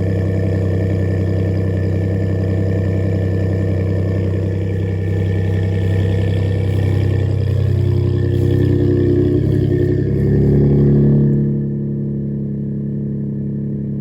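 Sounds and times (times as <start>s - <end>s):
truck exhaust steady low note: 0.0s - 14.0s.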